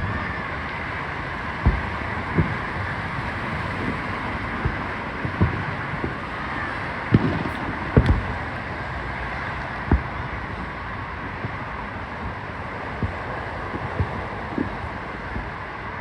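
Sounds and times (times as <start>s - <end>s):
distant fireworks booming: 0.0s - 16.0s
wind noise on microphone: 0.0s - 16.0s.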